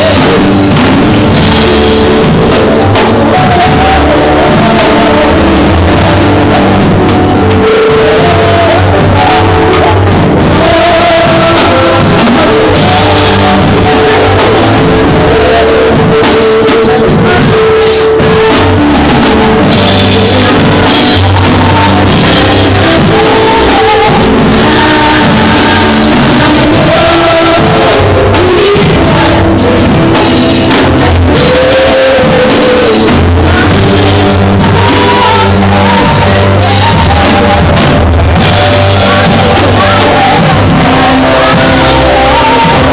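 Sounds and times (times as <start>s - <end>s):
band playing worship song: 0.0s - 42.9s
person singing: 0.0s - 42.9s.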